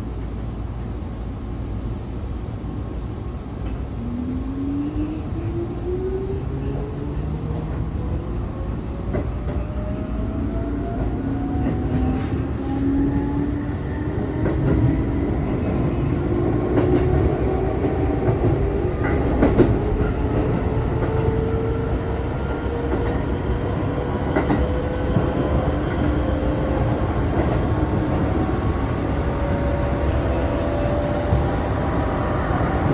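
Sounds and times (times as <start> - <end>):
rail joint clicks: 3.5 - 4.2, 5.0 - 32.9.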